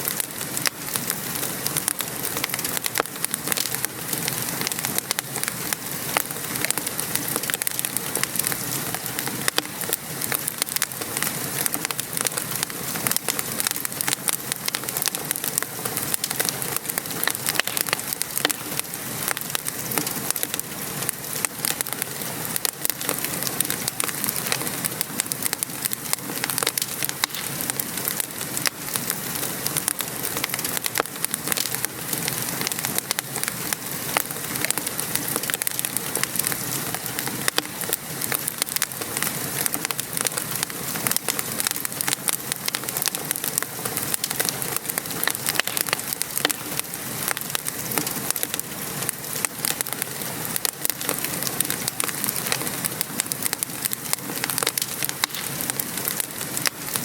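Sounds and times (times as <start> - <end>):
rain pattering on a surface: 0.0 - 57.0
wood fire crackling: 0.0 - 57.0.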